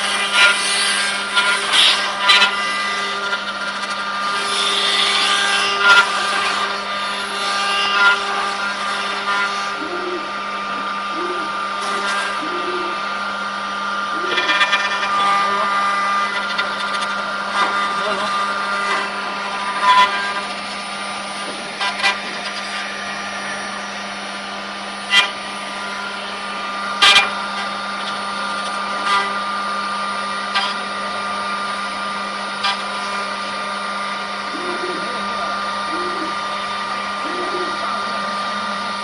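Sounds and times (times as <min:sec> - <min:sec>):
wood router whine and hum: 0:00.0 - 0:39.0.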